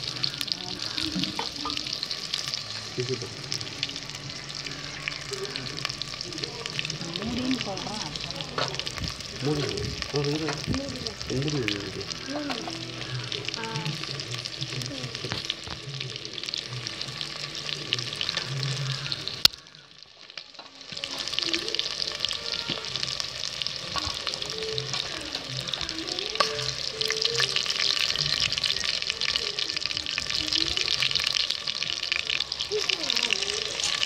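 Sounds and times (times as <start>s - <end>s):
chicken deep-frying in hot oil: 0.0s - 34.0s.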